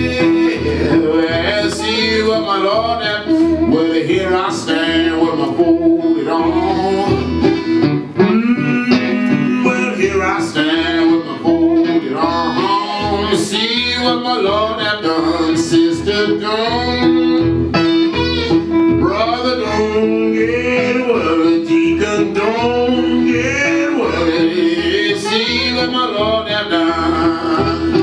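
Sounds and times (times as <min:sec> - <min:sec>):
acoustic guitar strumming: 0:00.0 - 0:28.0
man singing blues: 0:00.0 - 0:28.0.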